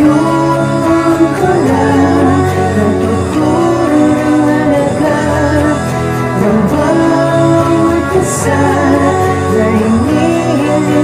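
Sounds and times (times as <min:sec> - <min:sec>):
man singing: 0:00.0 - 0:11.0
rock band playing: 0:00.0 - 0:11.0.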